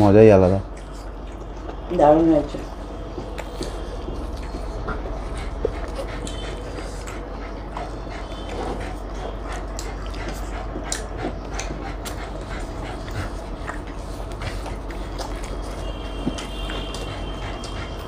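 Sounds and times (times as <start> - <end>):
people chewing food: 0.0 - 18.0
steady low hum: 0.0 - 18.0.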